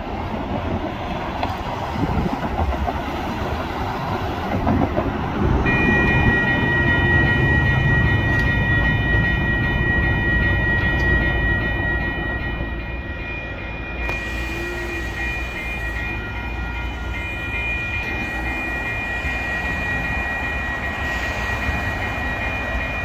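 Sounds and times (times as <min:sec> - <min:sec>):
crossing warning bell ringing: 0:00.0 - 0:23.0
train rumble: 0:00.0 - 0:23.0.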